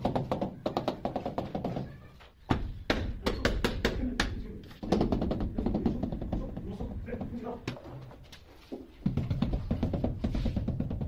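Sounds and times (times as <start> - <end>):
hammer tapping ceramic tiles: 0.0 - 7.8, 9.0 - 11.0.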